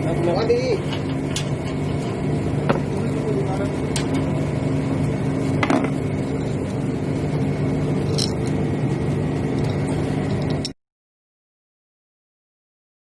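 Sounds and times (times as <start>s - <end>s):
machinery droning: 0.0s - 10.8s.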